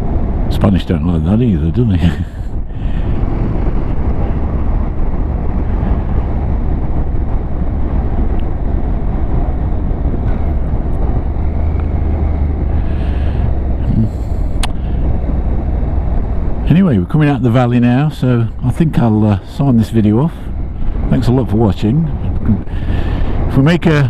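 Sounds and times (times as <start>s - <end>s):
wind rushing over microphone: 0.0s - 24.0s
motorcycle engine running: 1.6s - 24.0s.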